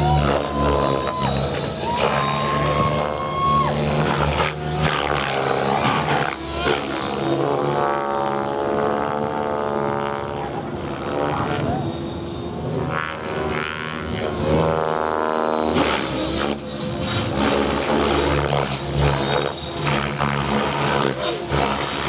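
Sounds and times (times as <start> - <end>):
model helicopter rotor buzzing: 0.0 - 22.0.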